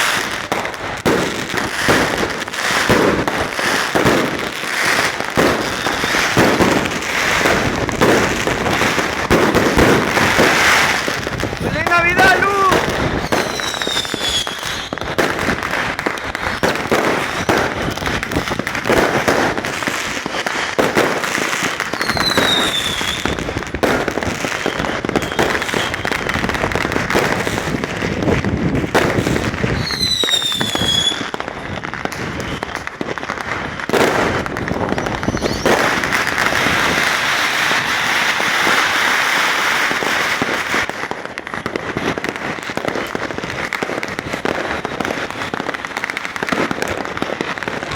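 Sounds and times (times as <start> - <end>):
fireworks bangs and crackles: 0.0 - 47.9
whistling firework: 0.0 - 47.9.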